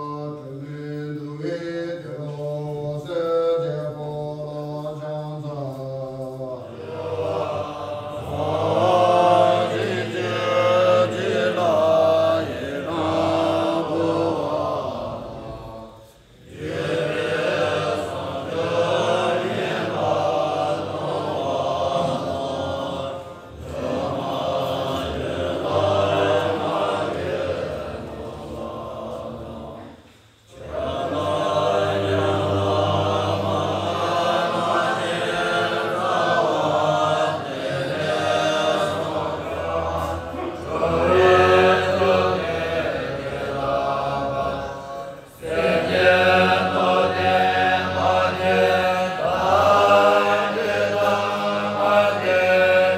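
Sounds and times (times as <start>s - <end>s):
men chanting in unison: 0.0s - 52.9s.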